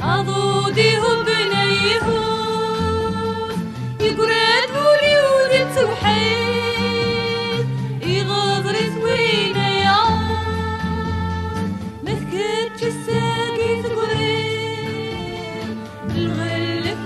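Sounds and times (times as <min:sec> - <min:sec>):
song with gliding melodic lead: 0:00.0 - 0:17.0.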